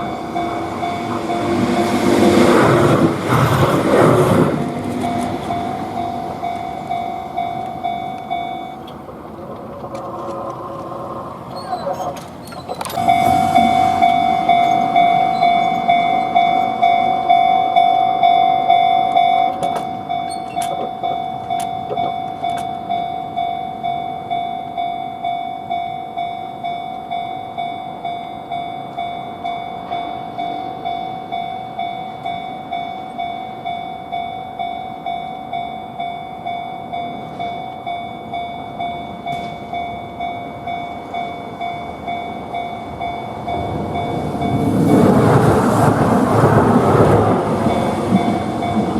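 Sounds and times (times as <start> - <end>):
level-crossing warning bell: 0.0 - 48.9.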